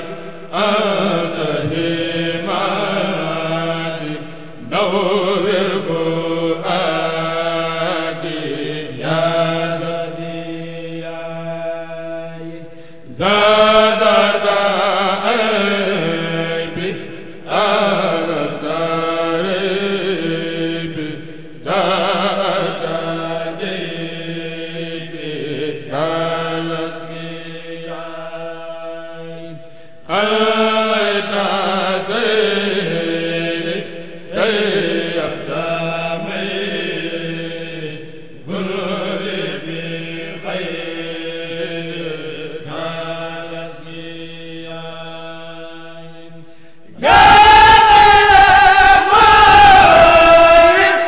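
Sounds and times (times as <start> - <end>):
men chanting unaccompanied: 0.0 - 51.0.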